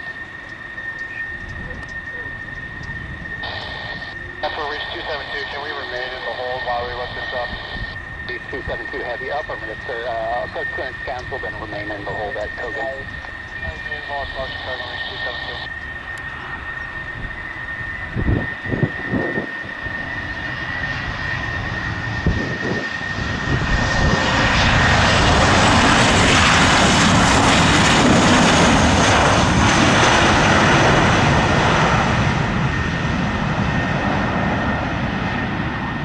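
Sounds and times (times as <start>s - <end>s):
jet engines whining on landing: 0.0s - 36.0s.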